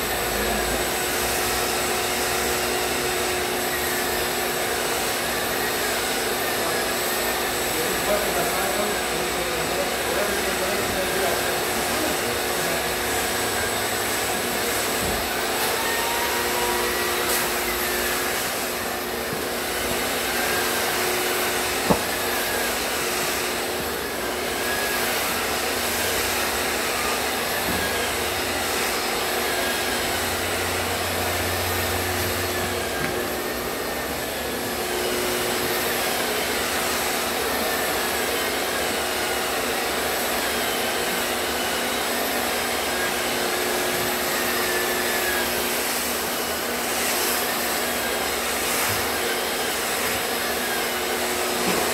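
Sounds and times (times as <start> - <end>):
drywall sander whirring: 0.0 - 51.9
vacuum drawing through hose: 0.0 - 51.9.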